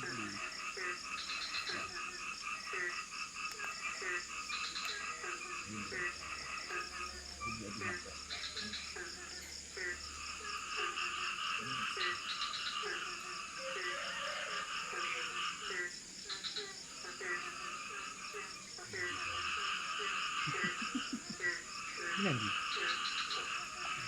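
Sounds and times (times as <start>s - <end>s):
frogs croaking: 0.0s - 24.0s
insects trilling: 0.0s - 24.0s.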